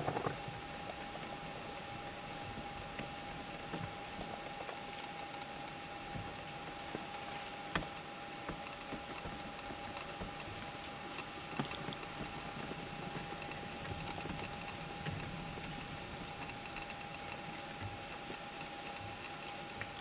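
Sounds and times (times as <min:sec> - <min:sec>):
faint constant whine: 0:00.0 - 0:20.0
small clicks and crackles: 0:00.0 - 0:20.0
steady hiss: 0:00.0 - 0:20.0.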